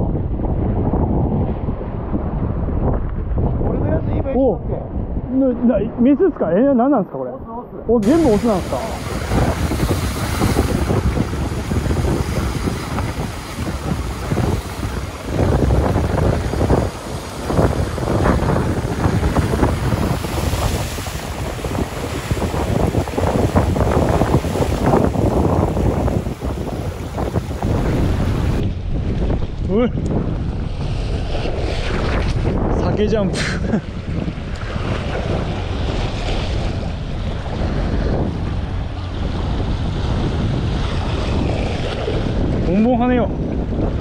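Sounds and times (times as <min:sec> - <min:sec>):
choppy water washing: 0:00.0 - 0:44.0
wind buffeting the microphone: 0:00.0 - 0:44.0
surf breaking on rocks: 0:08.0 - 0:43.8.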